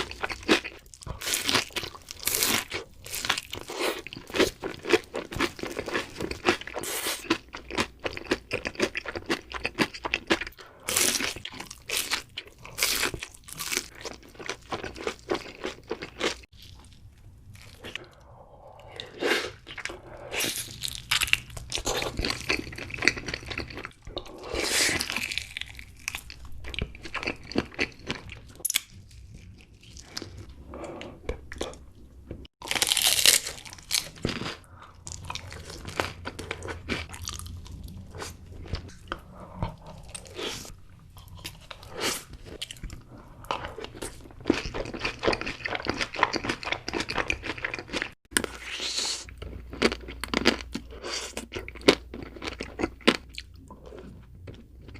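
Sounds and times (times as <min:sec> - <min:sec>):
chewing crunchy food: 0:00.0 - 0:54.9.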